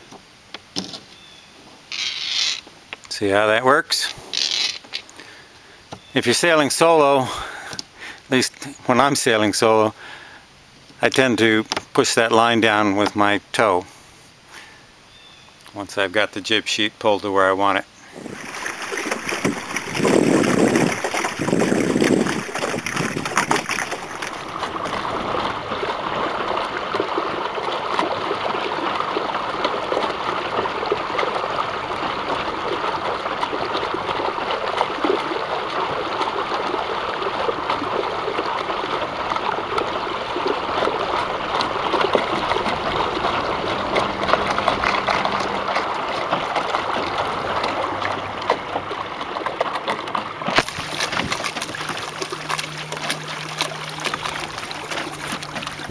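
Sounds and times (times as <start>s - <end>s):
water rushing along boat hull: 0.0s - 13.8s, 14.6s - 55.9s.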